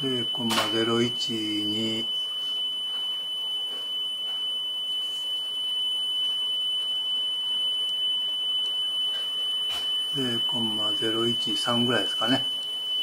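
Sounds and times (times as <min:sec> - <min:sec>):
steady test tone: 0:00.0 - 0:13.0.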